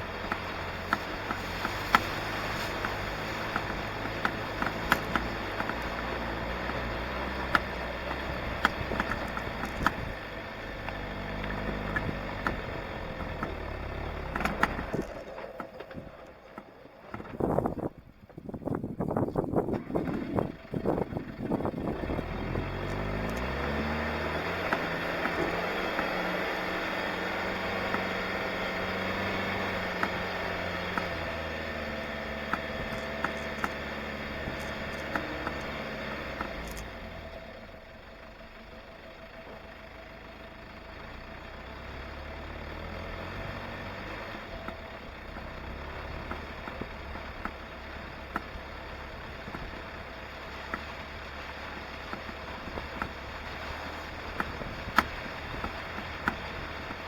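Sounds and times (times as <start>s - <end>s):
engine running at low revs: 0.0s - 57.0s.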